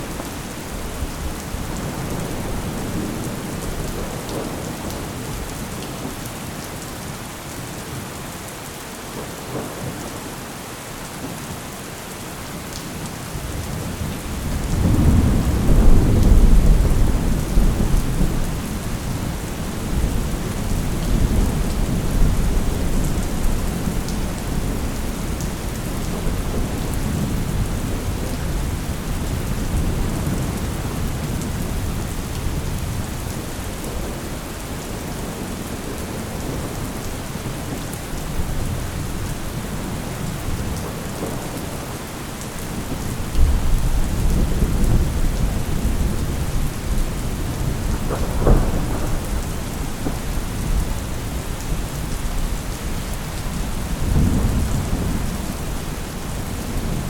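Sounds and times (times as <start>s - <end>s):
thunder rumbling: 0.0s - 5.5s, 13.4s - 42.0s, 42.7s - 57.0s
heavy rain: 0.0s - 57.0s.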